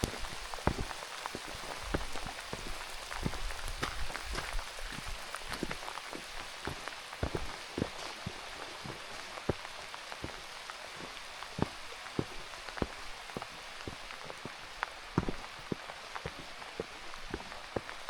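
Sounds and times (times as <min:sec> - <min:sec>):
rain hiss: 0:00.0 - 0:18.0
raindrops tapping a surface: 0:00.0 - 0:18.0.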